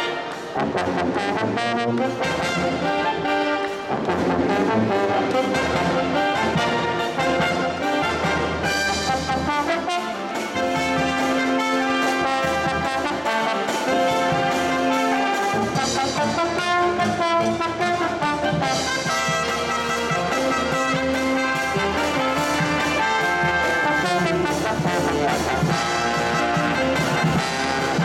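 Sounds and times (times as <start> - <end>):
brass marching band playing: 0.0 - 28.0.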